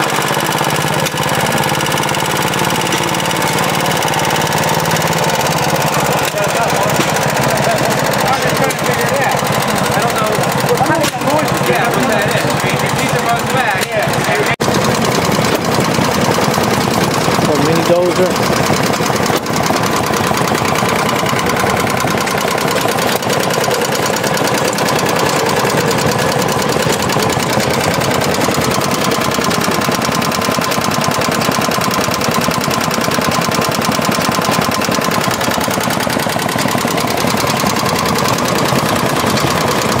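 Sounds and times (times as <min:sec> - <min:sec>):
small engine running steadily: 0:00.0 - 0:40.0.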